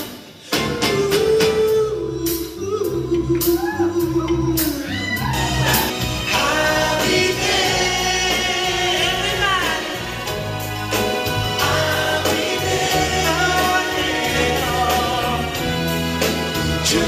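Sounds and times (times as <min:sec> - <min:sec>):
backing band with bass and beat: 0:00.0 - 0:17.0
voices singing in harmony: 0:00.4 - 0:17.0.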